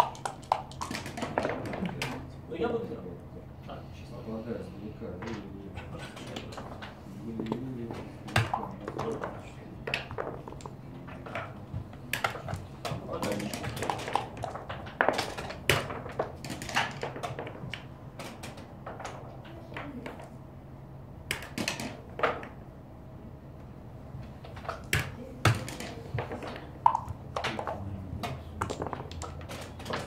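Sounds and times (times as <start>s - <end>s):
checkers and dice clacking on boards: 0.0s - 2.3s, 5.2s - 20.4s, 21.2s - 22.6s, 24.2s - 30.0s
low room hum: 0.0s - 30.0s.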